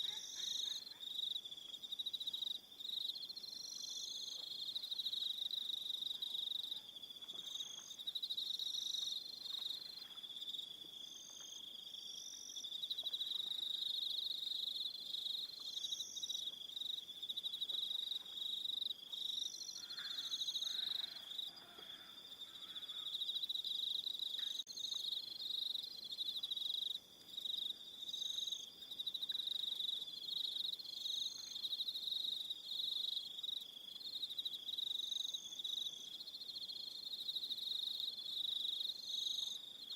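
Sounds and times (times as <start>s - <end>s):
crickets trilling: 0.0s - 39.9s
high cricket chirps: 0.0s - 39.9s.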